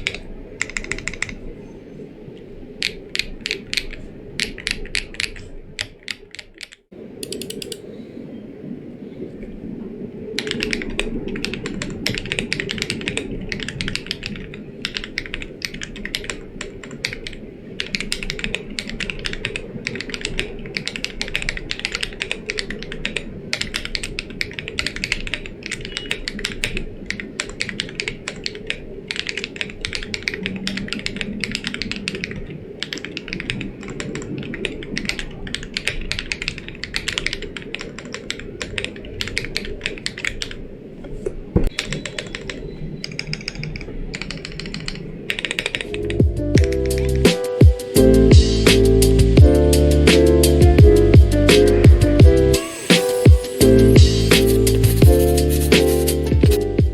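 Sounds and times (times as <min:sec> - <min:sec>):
mechanical keyboard typing: 0:00.0 - 0:01.4, 0:02.8 - 0:07.8, 0:10.4 - 0:40.6, 0:41.8 - 0:52.1.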